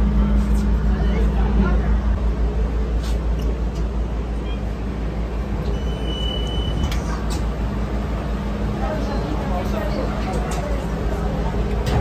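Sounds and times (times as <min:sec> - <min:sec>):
funicular railway car rumbling: 0:00.0 - 0:12.0.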